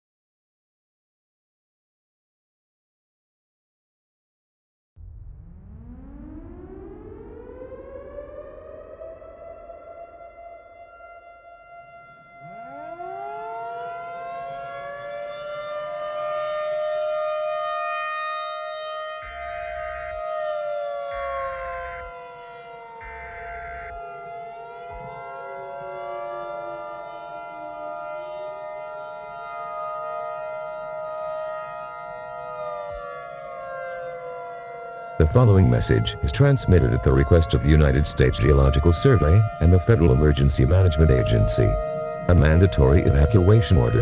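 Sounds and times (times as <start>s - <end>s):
warning siren steady wail: 5.0s - 44.0s
warning siren winding up: 5.0s - 44.0s.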